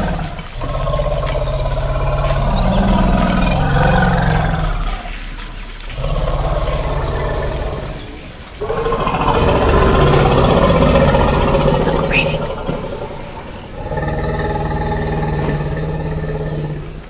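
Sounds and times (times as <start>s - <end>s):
elephant rumbling: 0.0s - 17.0s.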